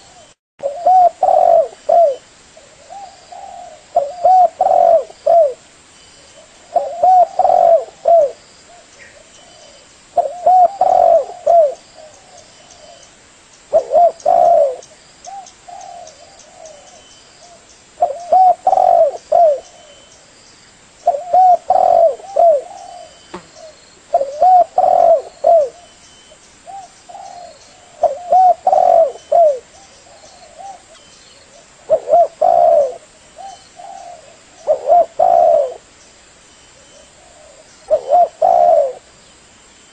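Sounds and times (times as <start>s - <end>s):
dove cooing: 0.0s - 5.7s, 6.3s - 13.1s, 13.7s - 20.2s, 21.0s - 26.0s, 26.6s - 35.9s, 36.8s - 39.1s.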